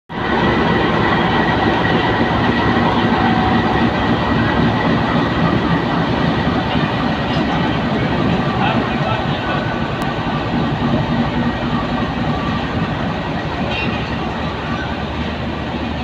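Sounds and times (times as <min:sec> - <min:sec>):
diesel locomotive engine running: 0:00.1 - 0:16.0.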